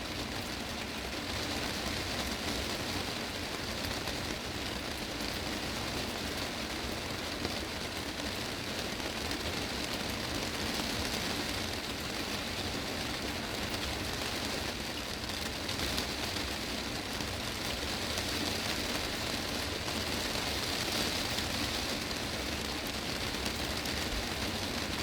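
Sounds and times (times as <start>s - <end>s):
heavy rain on glass roof: 0.0s - 25.0s.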